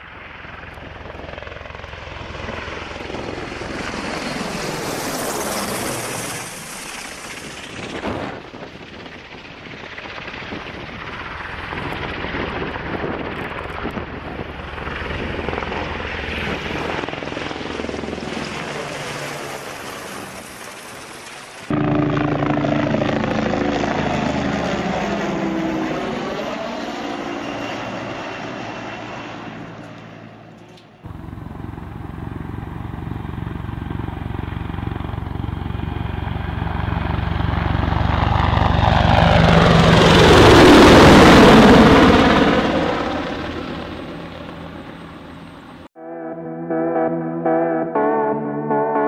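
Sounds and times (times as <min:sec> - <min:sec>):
helicopter rotor beat: 0:00.0 - 0:45.9.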